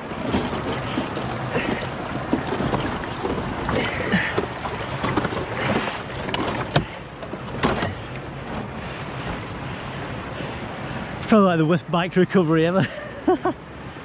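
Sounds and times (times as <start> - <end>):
water streaming off motorbike: 0.0 - 11.4
water splashing and sloshing: 0.0 - 14.0.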